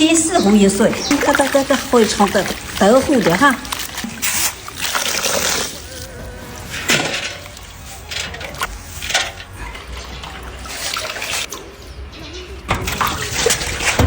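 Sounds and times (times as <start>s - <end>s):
water sloshing and splashing in a basin: 0.0s - 14.0s.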